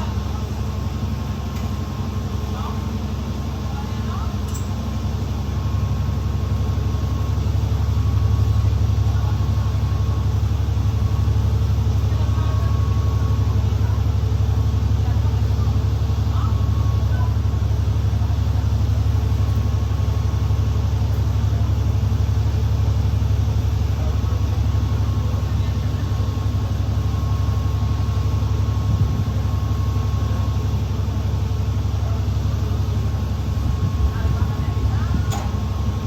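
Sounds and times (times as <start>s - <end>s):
bus engine droning: 0.0s - 36.0s.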